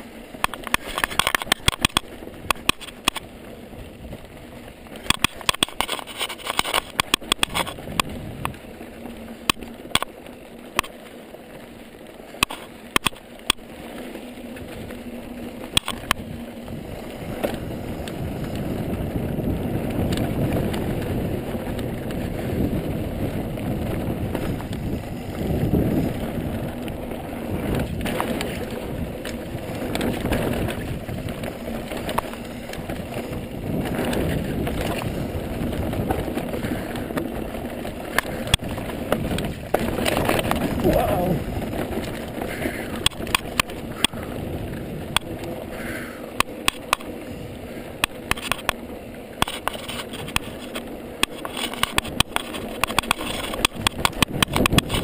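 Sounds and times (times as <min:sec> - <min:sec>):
wind noise: 0:00.0 - 0:10.9, 0:12.4 - 0:55.0
bike frame rattling: 0:00.0 - 0:55.0
tyres rumbling on ground: 0:00.0 - 0:55.0.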